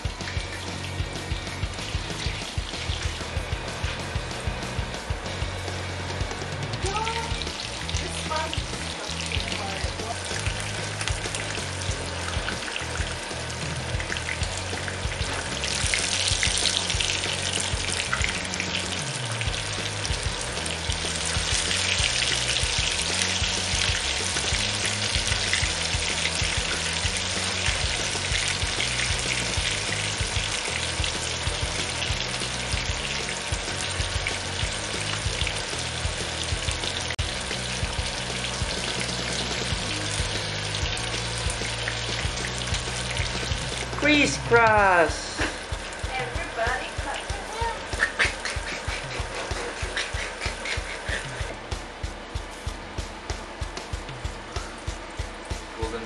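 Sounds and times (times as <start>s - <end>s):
deep frying in hot oil: 0.0s - 56.0s.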